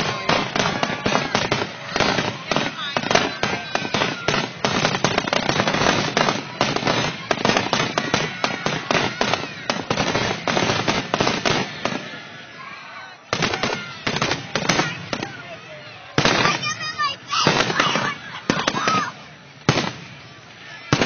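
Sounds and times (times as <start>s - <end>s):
fireworks bangs and cracks: 0.0s - 12.4s, 13.3s - 21.0s.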